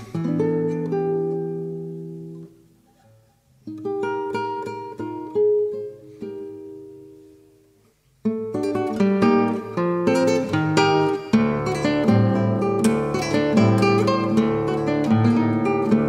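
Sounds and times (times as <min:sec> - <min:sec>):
solo acoustic guitar: 0:00.0 - 0:16.0.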